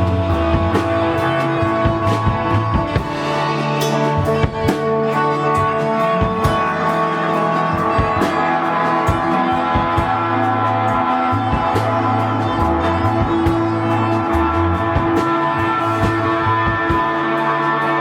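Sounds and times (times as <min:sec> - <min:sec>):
sustained guitar: 0:00.0 - 0:18.0.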